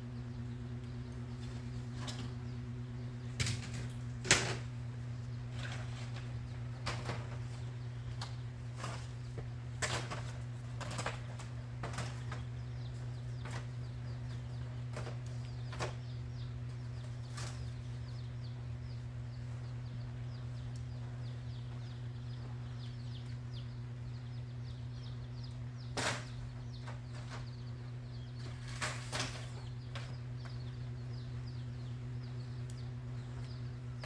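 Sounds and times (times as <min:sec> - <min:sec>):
small birds chirping: 0:00.0 - 0:34.0
steady low hum: 0:00.0 - 0:34.0.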